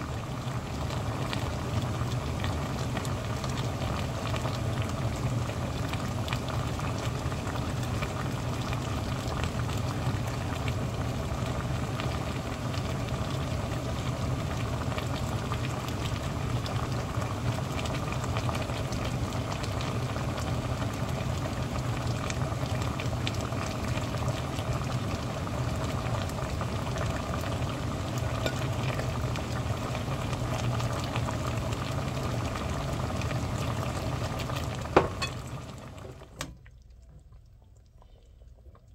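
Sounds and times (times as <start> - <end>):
sauce bubbling and popping: 0.0 - 38.9.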